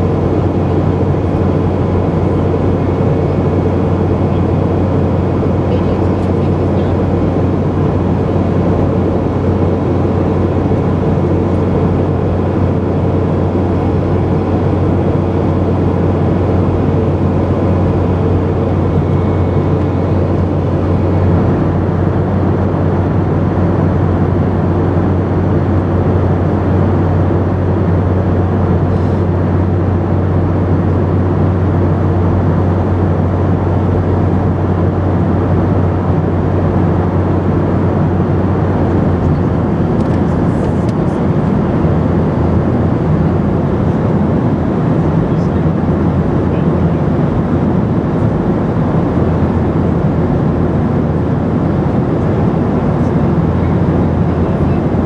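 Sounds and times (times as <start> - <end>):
airplane cabin engine drone: 0.0 - 55.0
strong low hum: 0.0 - 55.0.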